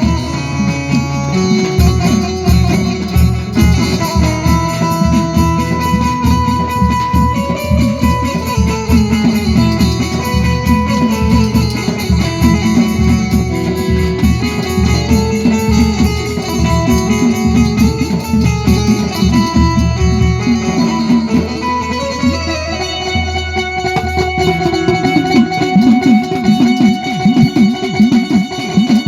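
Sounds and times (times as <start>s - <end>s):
plucked-string melody with bass beat: 0.0s - 29.0s.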